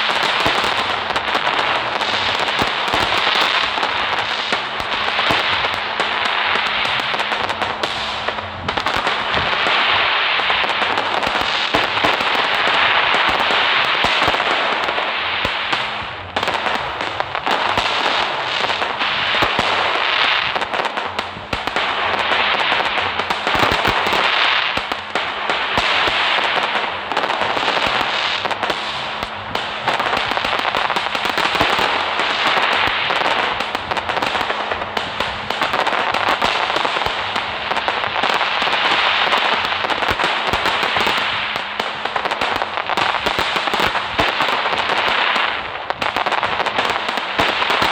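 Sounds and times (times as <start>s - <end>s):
fireworks crackling and hissing: 0.0s - 47.9s.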